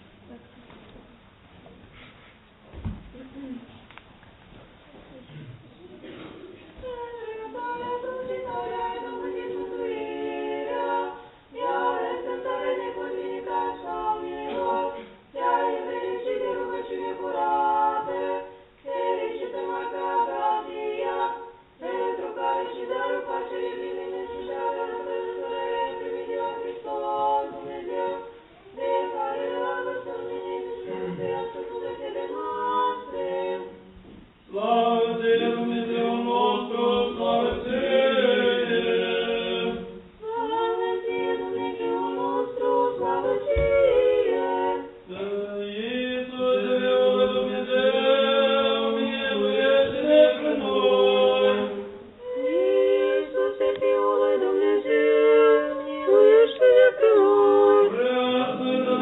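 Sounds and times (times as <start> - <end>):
choir singing a cappella: 6.0 - 59.0.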